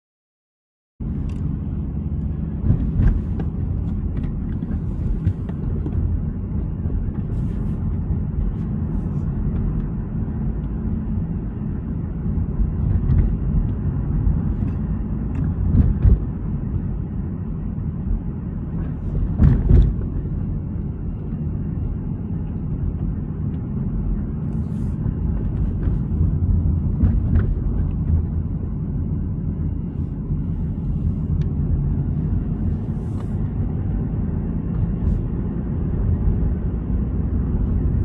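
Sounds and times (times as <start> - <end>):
engine and tyre rumble in car: 1.0 - 38.0.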